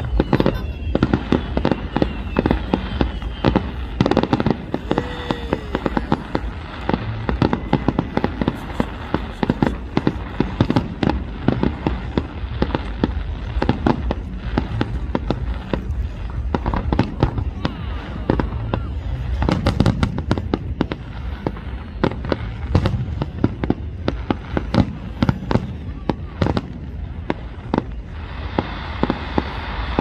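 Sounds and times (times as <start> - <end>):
low rumble: 0.0 - 28.4
fireworks bursting: 0.0 - 30.0.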